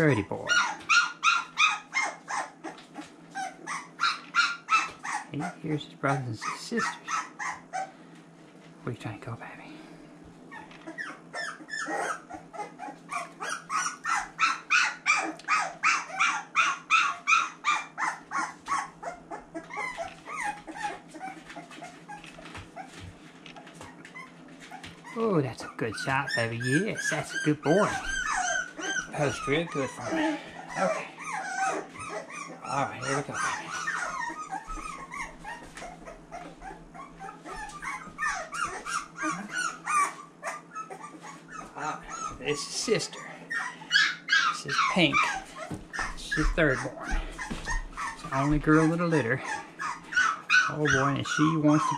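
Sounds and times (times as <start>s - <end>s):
puppy crying: 0.3s - 8.1s, 10.4s - 51.9s.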